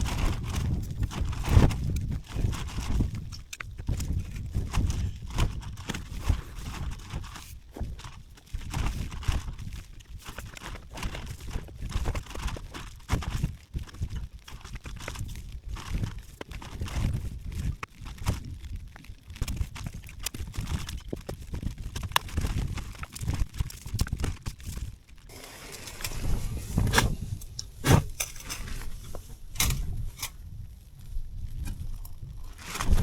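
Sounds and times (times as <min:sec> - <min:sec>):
rustling: 0:00.0 - 0:33.0
wind rumbling on microphone: 0:00.0 - 0:33.0.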